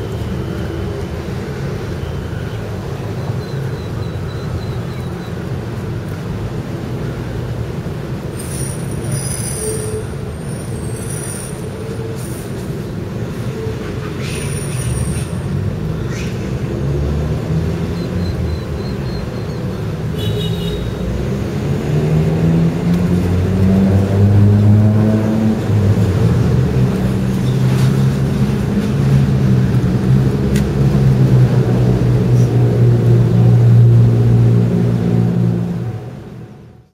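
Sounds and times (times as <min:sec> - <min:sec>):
heavy traffic rumble: 0:00.0 - 0:36.9.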